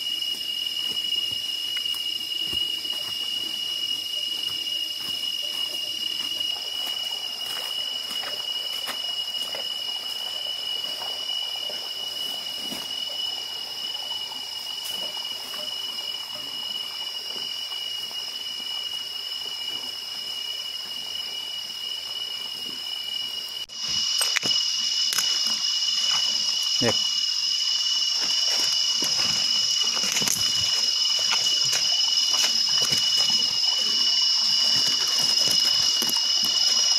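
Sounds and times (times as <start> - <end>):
insect chorus drone: 0.0 - 36.9.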